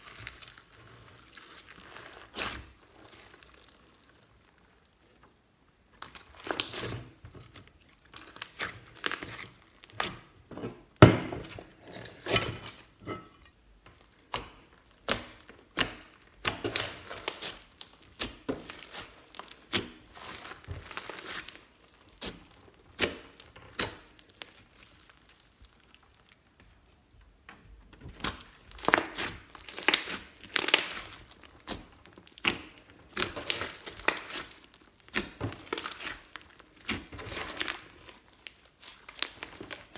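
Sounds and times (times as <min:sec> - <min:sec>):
slime popping and crackling: 0:00.0 - 0:05.2, 0:05.9 - 0:10.3, 0:14.0 - 0:39.9.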